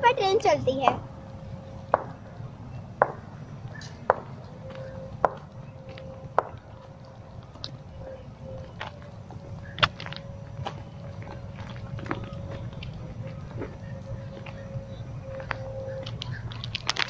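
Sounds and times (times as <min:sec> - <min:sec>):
low background noise: 0:00.0 - 0:17.0
footsteps crunching on gravel: 0:03.0 - 0:17.0.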